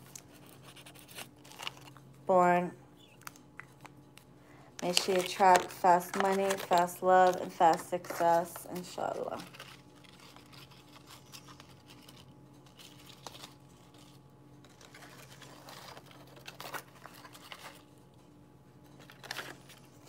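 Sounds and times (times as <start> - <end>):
banknotes rustling: 0.0 - 2.1, 4.8 - 18.1, 18.8 - 20.0
low steady hum: 0.0 - 20.0.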